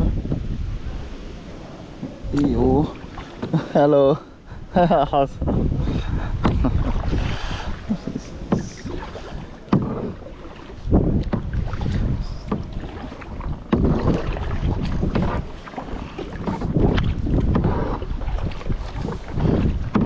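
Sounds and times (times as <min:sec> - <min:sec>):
wind buffeting microphone: 0:00.0 - 0:20.0
paddle splashing in water: 0:00.2 - 0:04.8, 0:05.4 - 0:20.0.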